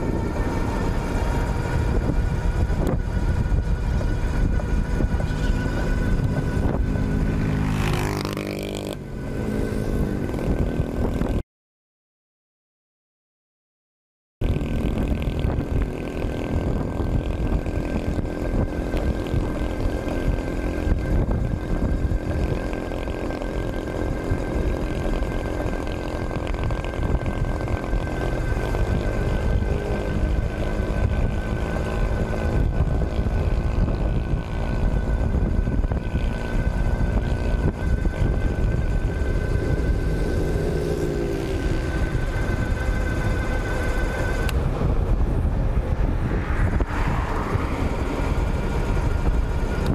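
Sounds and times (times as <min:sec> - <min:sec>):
high electric motor whine: 0:00.0 - 0:11.4, 0:14.4 - 0:49.9
low wavering hums: 0:00.0 - 0:11.4, 0:14.4 - 0:49.9
wind rushing over microphone: 0:00.0 - 0:11.4, 0:14.4 - 0:49.9.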